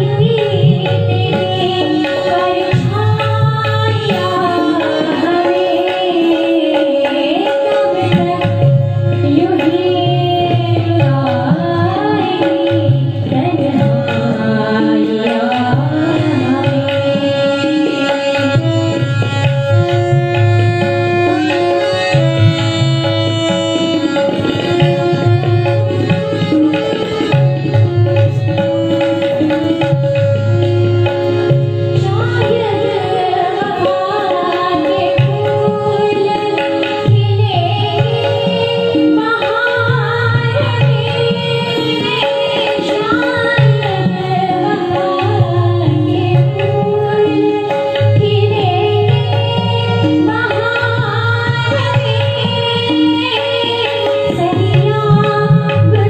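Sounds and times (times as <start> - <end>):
harmonium held notes: 0.0 - 56.0
tabla drums: 0.0 - 56.0
woman singing: 0.0 - 56.0.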